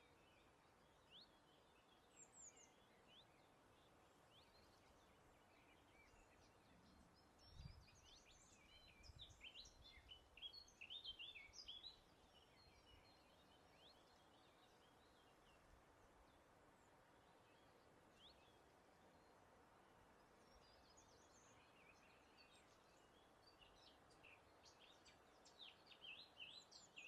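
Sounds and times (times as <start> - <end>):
low rumble of breeze: 0.0 - 27.0
songbirds chirping: 0.0 - 27.0.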